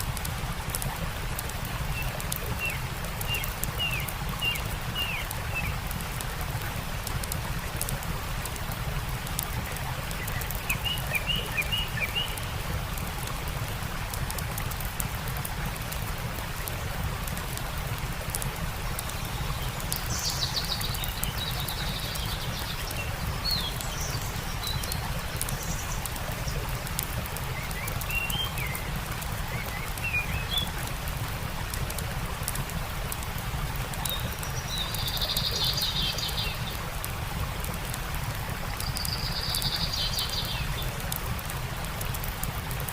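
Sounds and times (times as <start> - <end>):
campfire crackling: 0.0 - 42.9
flowing stream: 0.0 - 42.9
songbirds chirping: 1.2 - 42.6.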